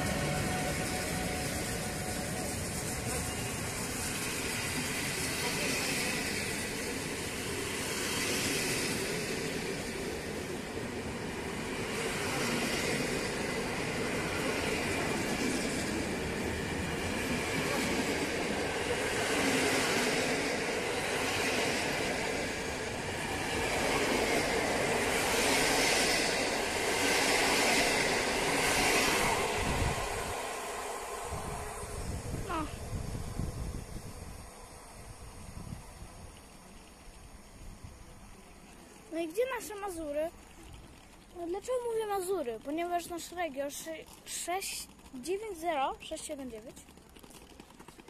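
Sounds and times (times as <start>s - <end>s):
train wheels rushing on rail: 0.0s - 48.0s.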